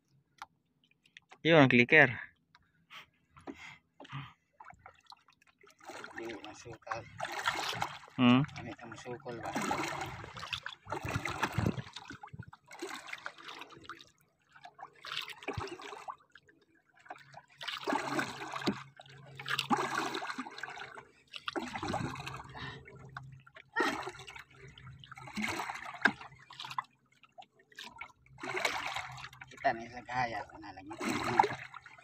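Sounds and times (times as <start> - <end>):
water splashing against boat hull: 4.6 - 32.0.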